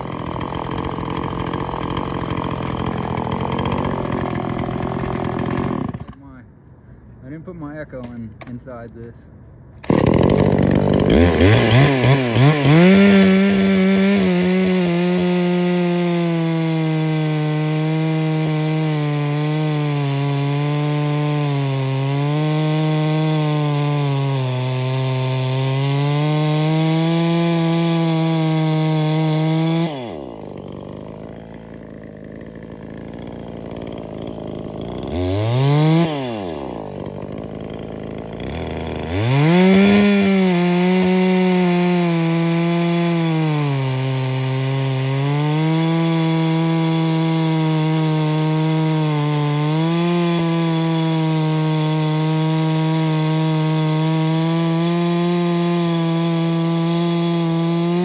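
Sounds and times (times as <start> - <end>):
chainsaw cutting a log: 0.0 - 6.2, 9.8 - 58.0.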